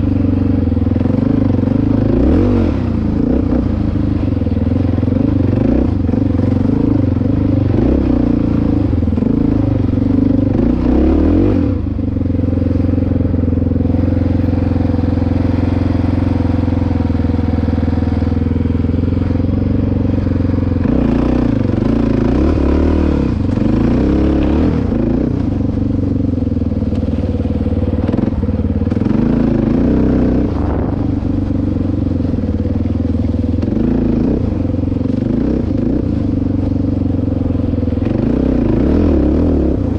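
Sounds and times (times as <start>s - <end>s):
dirt bike engine under throttle: 0.0s - 39.9s.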